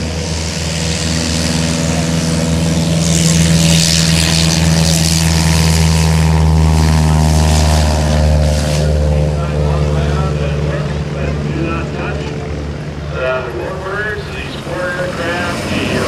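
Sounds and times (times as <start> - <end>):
propeller plane engine running: 0.0 - 16.0.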